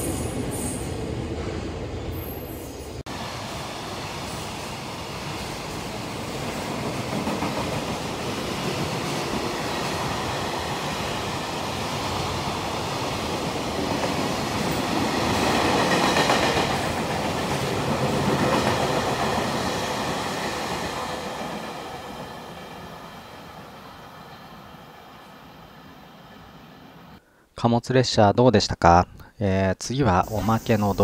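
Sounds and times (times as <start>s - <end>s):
freight train wheels on rails: 0.0s - 27.2s.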